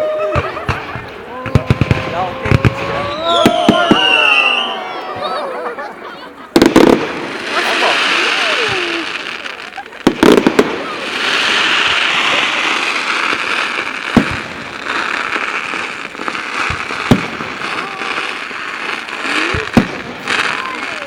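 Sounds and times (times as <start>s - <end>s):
fireworks bangs: 0.0s - 21.0s
fireworks crackling: 0.0s - 21.0s
whistling fireworks: 0.0s - 21.0s.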